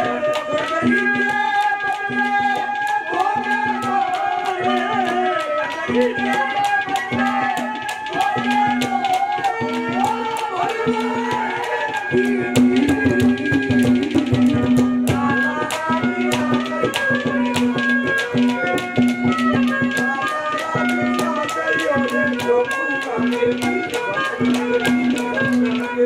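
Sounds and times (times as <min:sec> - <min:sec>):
hand drums fast rhythm: 0:00.0 - 0:26.0
held steady notes: 0:00.0 - 0:26.0.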